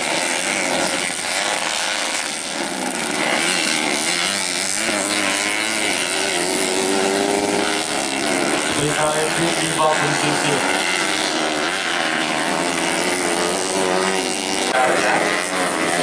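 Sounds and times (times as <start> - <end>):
motorcycles revving: 0.0 - 16.0.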